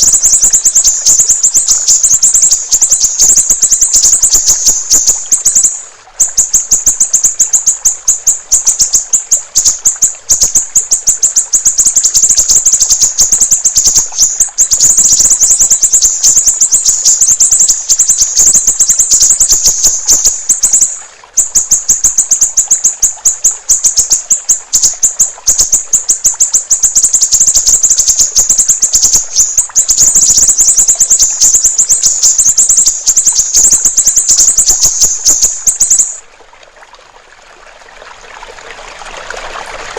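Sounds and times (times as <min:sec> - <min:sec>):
bird singing chattering trill: 0:00.0 - 0:36.2
water gurgling: 0:00.0 - 0:39.9.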